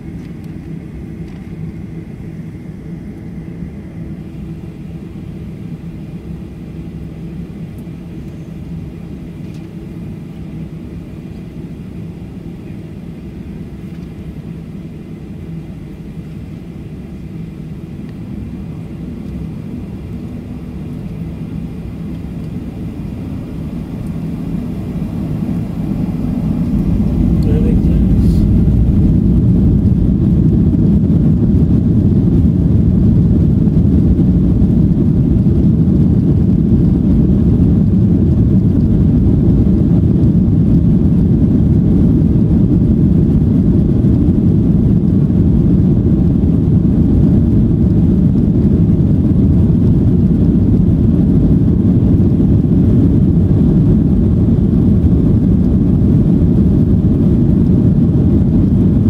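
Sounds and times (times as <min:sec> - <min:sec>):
jet engines and landing gear rumble: 0:00.0 - 0:59.0.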